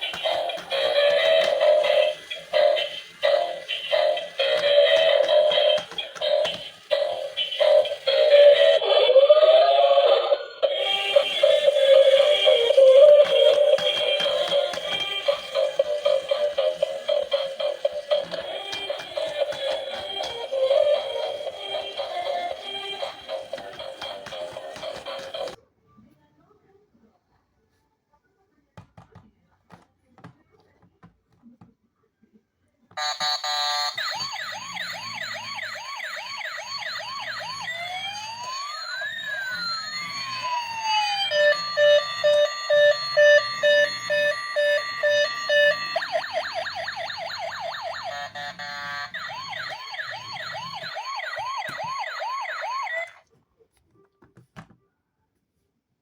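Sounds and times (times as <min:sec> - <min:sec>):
toy electronic siren sounds: 0:00.0 - 0:25.6, 0:33.0 - 0:53.2.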